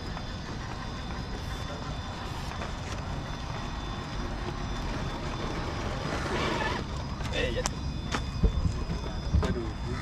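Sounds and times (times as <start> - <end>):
electric motors and gearboxes rumbling: 0.0 - 10.0
faint high whine: 0.0 - 10.0.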